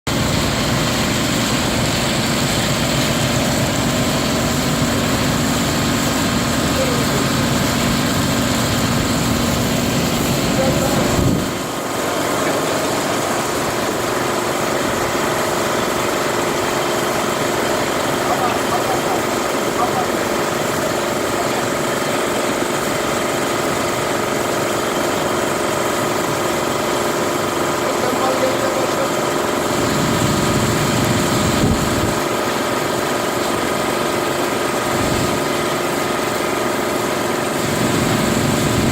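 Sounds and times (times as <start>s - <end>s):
recycling machine running: 0.1s - 38.9s.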